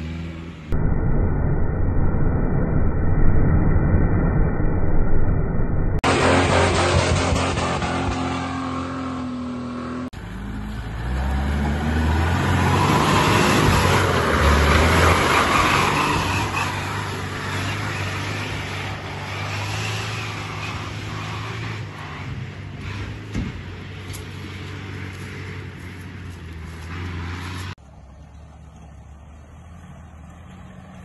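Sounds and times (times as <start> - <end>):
engine revving through mud: 6.0 - 31.0
off-road engine running: 6.0 - 31.0.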